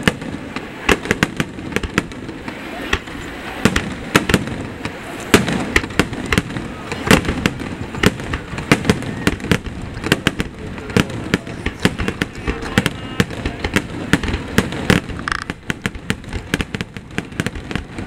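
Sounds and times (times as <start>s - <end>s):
firework crackle: 0.0s - 18.0s
firework shells bursting: 0.0s - 18.0s.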